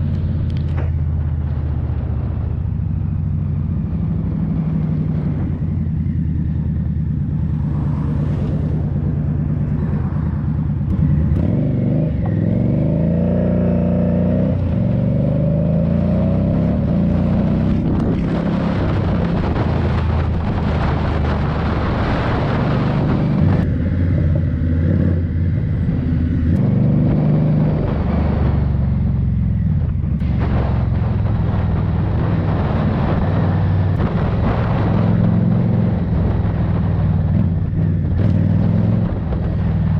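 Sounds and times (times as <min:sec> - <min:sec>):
motorcycle engine running: 0:00.0 - 0:39.9
wind rush: 0:03.7 - 0:39.9.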